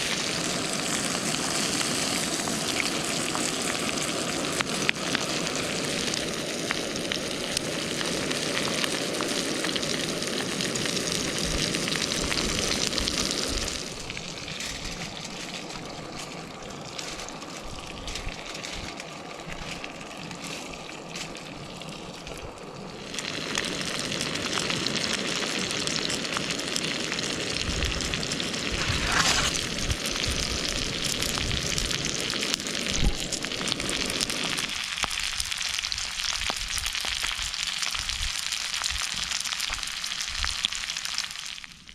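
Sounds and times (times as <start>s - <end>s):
food sizzling in a pan: 0.0s - 41.9s.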